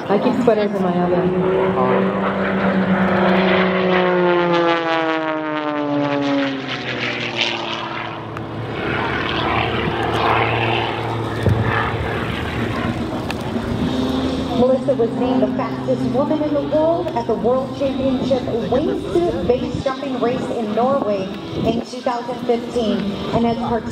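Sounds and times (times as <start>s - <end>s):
propeller plane engine droning: 0.0s - 23.9s.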